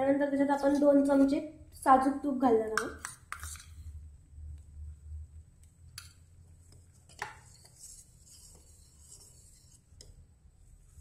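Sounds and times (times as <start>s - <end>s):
spoon stirring thick pudding: 0.4s - 4.0s, 5.6s - 11.0s.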